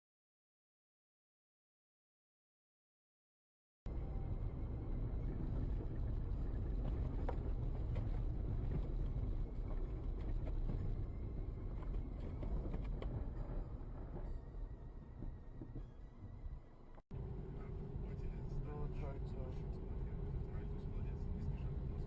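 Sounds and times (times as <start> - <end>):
car road and engine rumble: 3.9 - 22.0.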